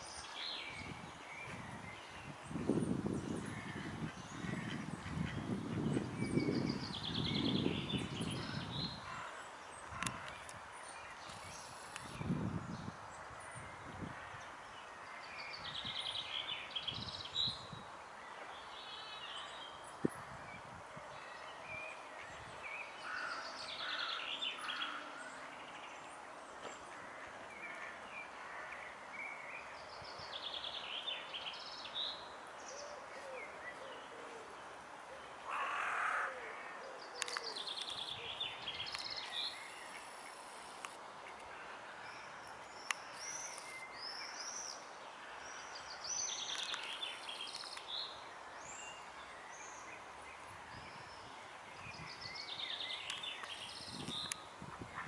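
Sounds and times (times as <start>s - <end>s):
small birds singing: 0.0s - 55.0s
steady outdoor hiss: 0.0s - 55.0s.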